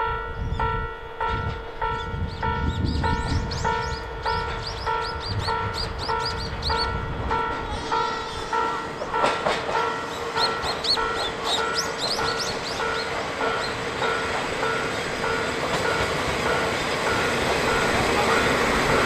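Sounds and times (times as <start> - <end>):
train running noise: 0.0 - 19.0.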